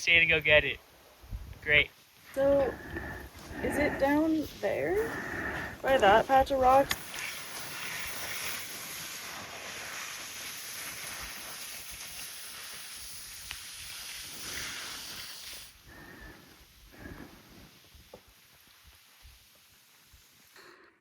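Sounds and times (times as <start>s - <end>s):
person sliding down snow: 2.2s - 20.6s.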